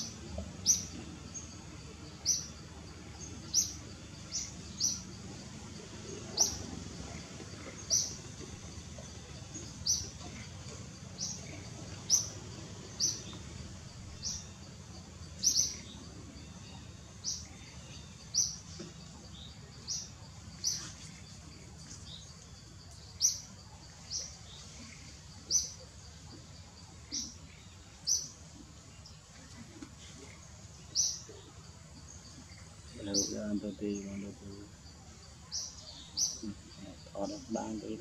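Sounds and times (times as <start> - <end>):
bird chirping: 0.0 - 38.0.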